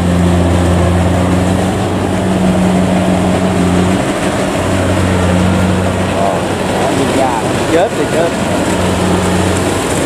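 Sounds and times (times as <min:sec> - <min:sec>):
combine harvester diesel engine: 0:00.0 - 0:10.0.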